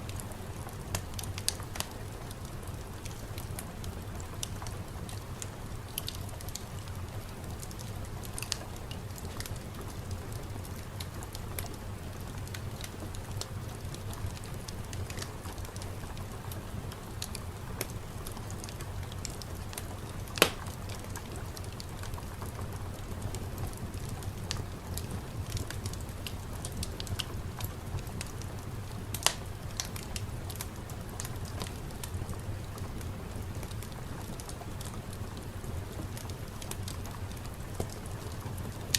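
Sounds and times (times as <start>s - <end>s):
steady hiss and low rumble: 0.0s - 38.9s
wood fire crackling: 0.0s - 38.9s
fire popping: 0.1s - 38.9s.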